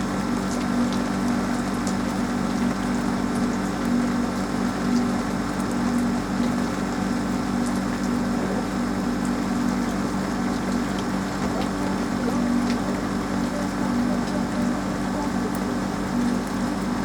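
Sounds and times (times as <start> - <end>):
loud low mechanical hum: 0.0 - 17.0
rain falling on a roof: 0.0 - 17.0.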